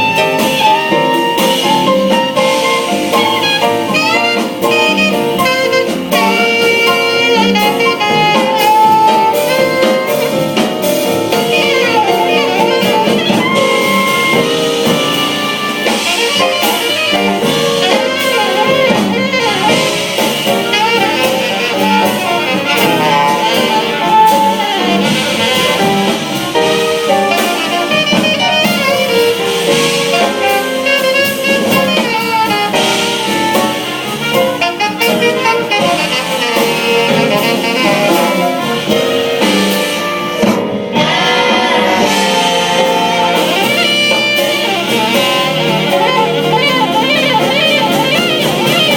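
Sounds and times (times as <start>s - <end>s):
jazz drums and rhythm section: 0.0s - 48.9s
saxophone soloing: 0.0s - 48.9s.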